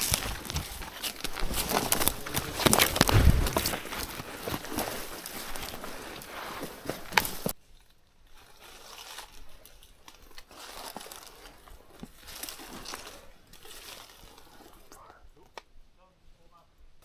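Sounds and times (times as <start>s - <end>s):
footsteps crunching dry leaves: 0.0s - 15.2s
twigs snapping: 0.0s - 15.8s.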